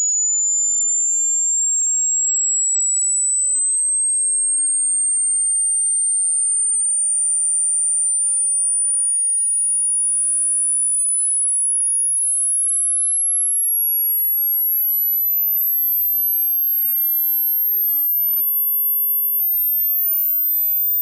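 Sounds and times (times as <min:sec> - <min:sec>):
high-pitched sine tone gliding up: 0:00.0 - 0:21.0.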